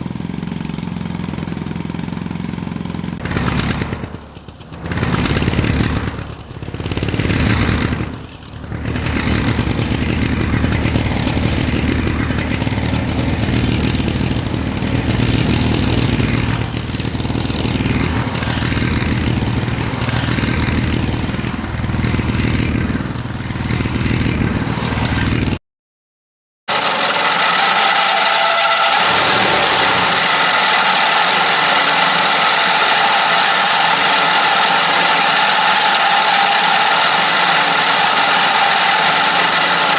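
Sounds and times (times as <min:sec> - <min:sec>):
engine revving: 0:00.0 - 0:25.6, 0:26.7 - 0:39.9.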